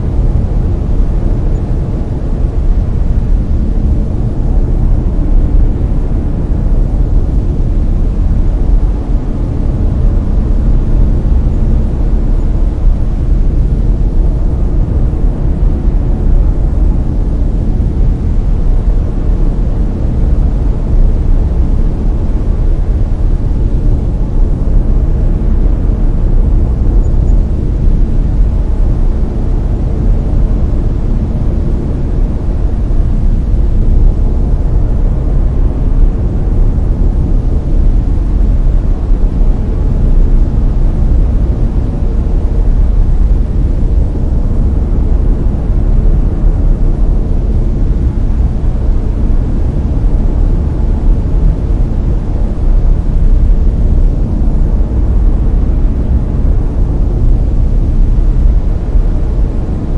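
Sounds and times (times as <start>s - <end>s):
deep steady brown noise hiss: 0.0s - 59.9s.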